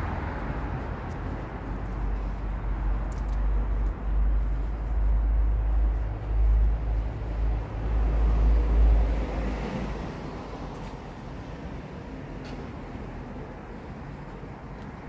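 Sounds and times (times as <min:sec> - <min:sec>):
vehicle passing with tyre noise: 0:00.0 - 0:15.0.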